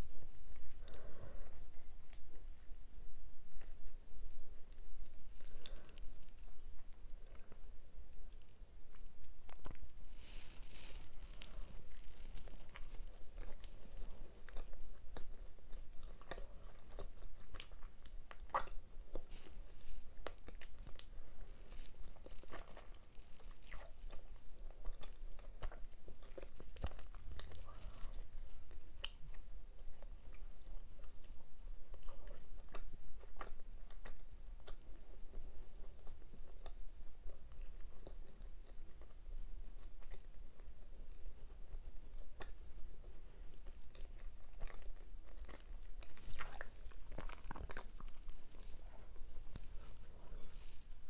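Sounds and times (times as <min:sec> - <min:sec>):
person chewing food: 0:00.5 - 0:02.6, 0:04.7 - 0:51.0.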